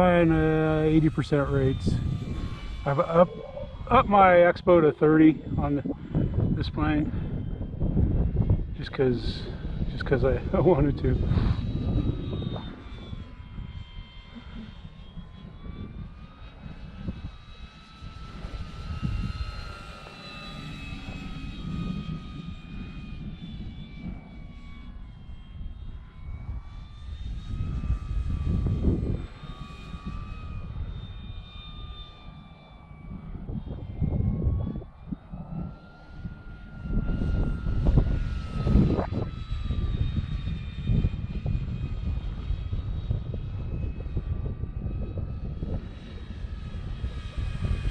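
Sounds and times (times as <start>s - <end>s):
model plane motor whining: 0.0s - 47.9s
wind buffeting microphone: 0.0s - 47.9s.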